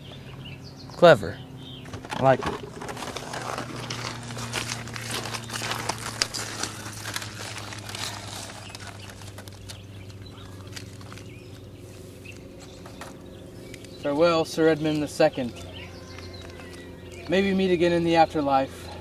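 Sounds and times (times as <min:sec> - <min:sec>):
low hum: 0:00.0 - 0:19.0
rustling and crackling: 0:01.8 - 0:17.8.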